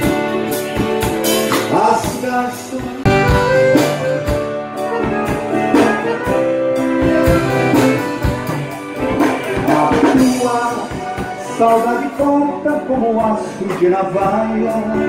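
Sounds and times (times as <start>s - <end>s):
accordion: 0.0s - 14.2s
drum kit: 0.0s - 15.0s.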